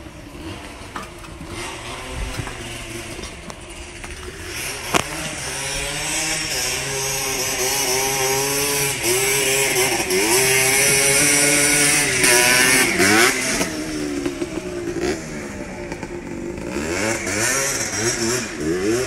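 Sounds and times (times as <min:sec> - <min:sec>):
quad bike engine at high revs: 0:00.0 - 0:19.0.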